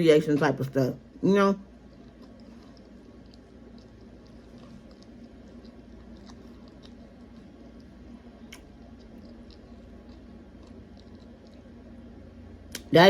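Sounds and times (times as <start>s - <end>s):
chewing food: 1.1s - 12.9s.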